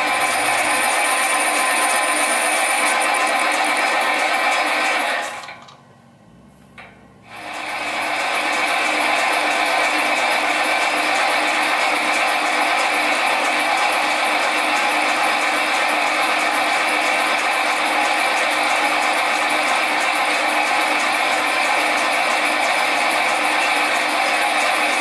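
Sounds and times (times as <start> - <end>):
lathe whining with ticking: 0.0 - 5.8, 7.3 - 25.0.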